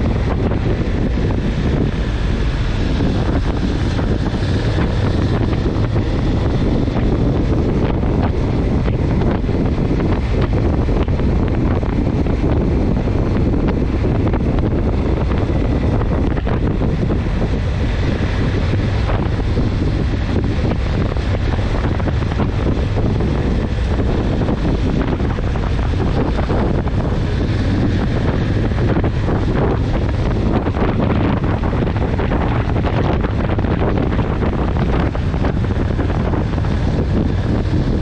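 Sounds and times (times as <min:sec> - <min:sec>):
low rumble: 0:00.0 - 0:38.0
wind buffeting microphone: 0:00.0 - 0:38.0.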